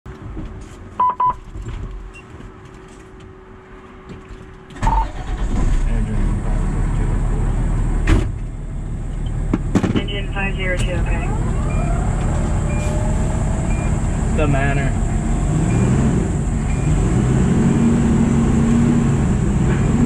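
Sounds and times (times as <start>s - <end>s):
diesel engine starting and running: 1.9s - 20.0s.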